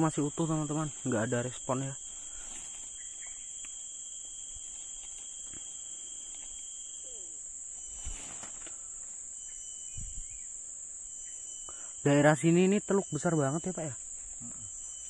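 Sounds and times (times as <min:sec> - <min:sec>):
high-pitched insect buzzing: 0:00.0 - 0:15.0.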